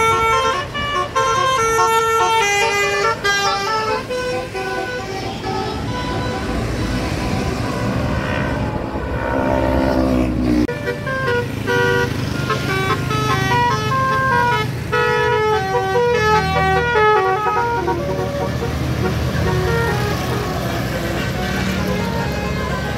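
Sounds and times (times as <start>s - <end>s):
bus engine: 0.0s - 22.9s
multi-tone bus horn tune: 0.0s - 22.9s.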